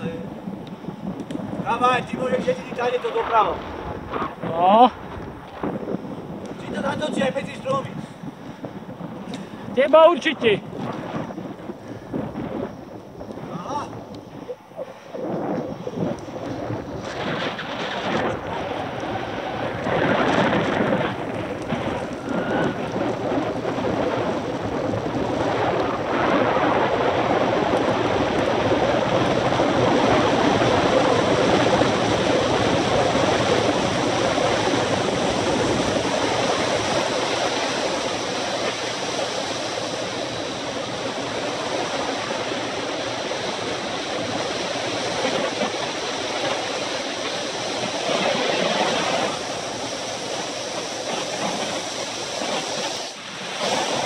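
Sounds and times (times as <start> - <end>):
bicycle tyre noise: 0.0 - 54.0
wind rushing over microphone: 0.0 - 54.0.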